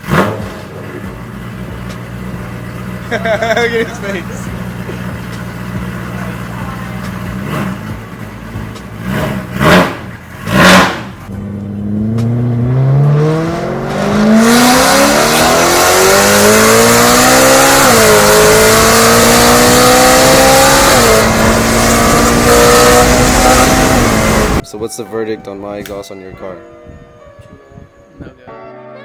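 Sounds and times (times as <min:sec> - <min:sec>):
car engine revving and accelerating: 0:00.0 - 0:24.6.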